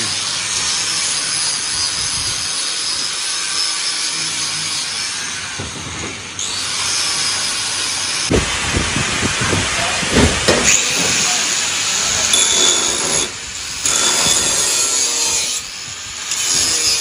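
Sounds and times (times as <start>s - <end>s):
angle grinder cutting metal pipe: 0.0s - 8.3s, 10.4s - 17.0s.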